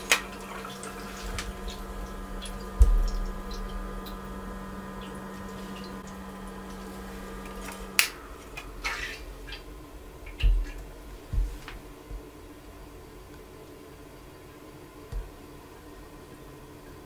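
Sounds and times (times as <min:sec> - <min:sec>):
pump humming: 0:00.0 - 0:17.0.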